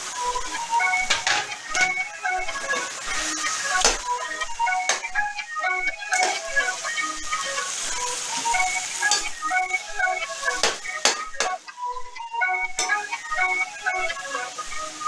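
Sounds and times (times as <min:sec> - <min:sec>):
chicken sizzling in a pot: 0:00.0 - 0:11.6, 0:12.8 - 0:15.0
background music: 0:00.0 - 0:15.0.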